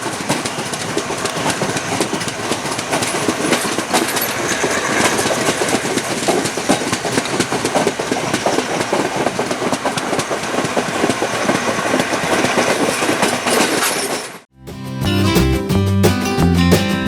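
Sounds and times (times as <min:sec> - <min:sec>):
train wheels clattering over rail joints: 0:00.0 - 0:14.5.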